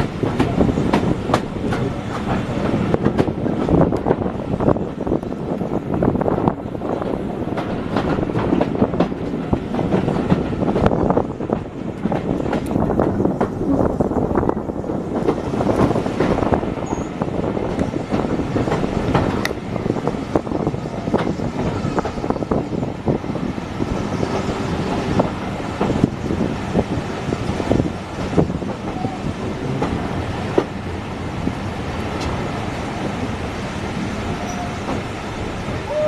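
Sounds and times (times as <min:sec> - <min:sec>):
train carriage rumble: 0:00.0 - 0:36.0.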